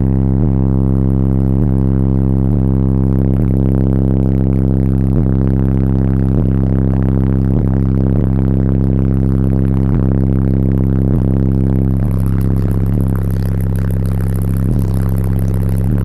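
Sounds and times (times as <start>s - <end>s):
subwoofer bass drone: 0.0s - 16.0s.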